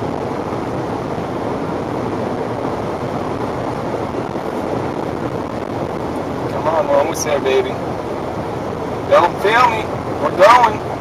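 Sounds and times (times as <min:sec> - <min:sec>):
water rushing against car: 0:00.0 - 0:11.0.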